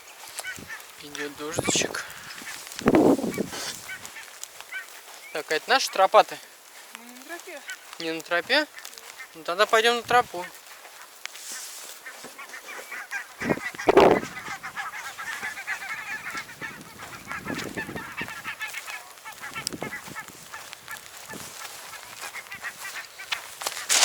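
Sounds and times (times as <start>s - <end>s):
ducks quacking: 0.0s - 6.5s, 7.2s - 24.0s.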